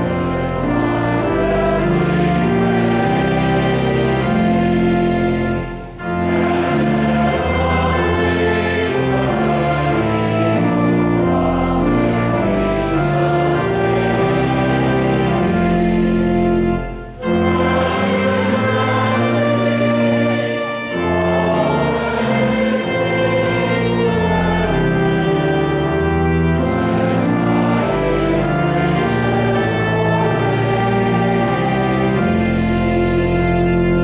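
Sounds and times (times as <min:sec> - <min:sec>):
choir and congregation singing: 0:00.0 - 0:34.0
church organ playing hymn: 0:00.0 - 0:34.0.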